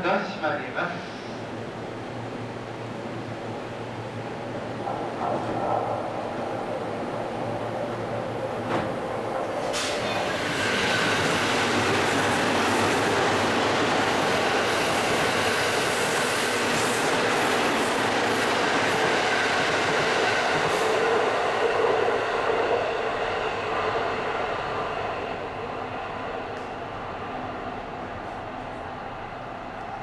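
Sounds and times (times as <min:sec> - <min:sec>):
train wheels rushing on rail: 0:01.2 - 0:30.0.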